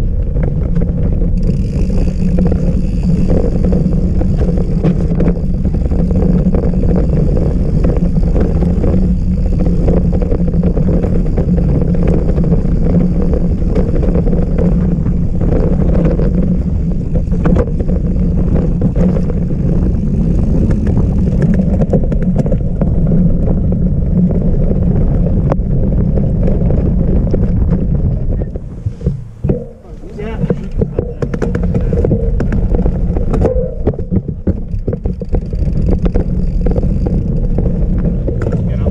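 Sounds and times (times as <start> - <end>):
bike rattling and knocking: 0.0 - 38.9
tyre and wind noise: 0.0 - 38.9.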